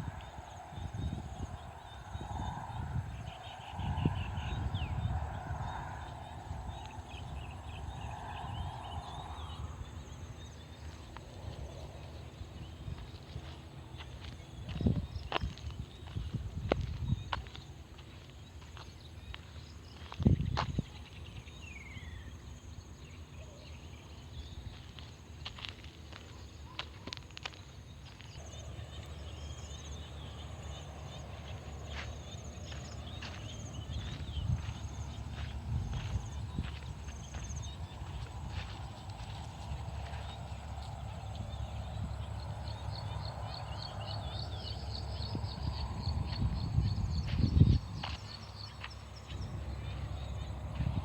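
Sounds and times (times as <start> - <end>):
frogs calling: 0.0 - 21.1, 24.8 - 51.0
birds chirping: 0.0 - 51.0.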